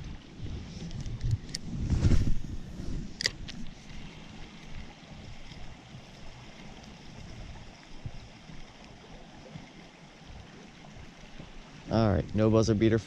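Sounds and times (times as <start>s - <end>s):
wind rumble on microphone: 0.0s - 12.5s
stream water running: 0.0s - 13.0s.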